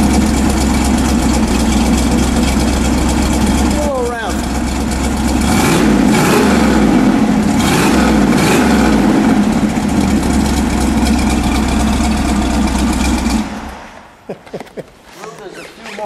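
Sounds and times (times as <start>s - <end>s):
car engine idling at exhaust: 0.0s - 13.8s.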